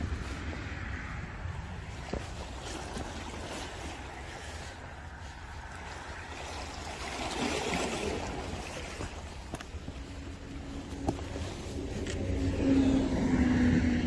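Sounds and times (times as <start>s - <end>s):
sea rushing over rocks: 0.0s - 14.0s
wind rumbling on microphone: 0.0s - 14.0s.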